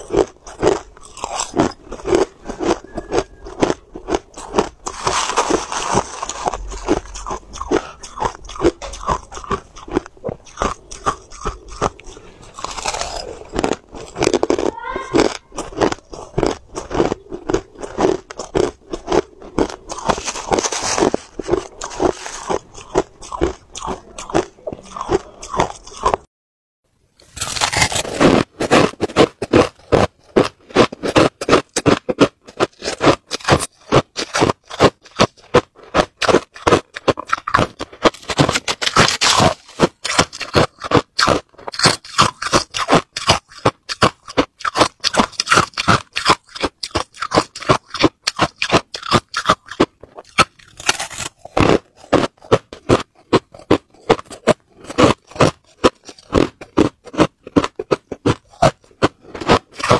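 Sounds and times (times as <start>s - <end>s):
chewing crushed ice: 0.0s - 26.3s, 27.2s - 59.9s.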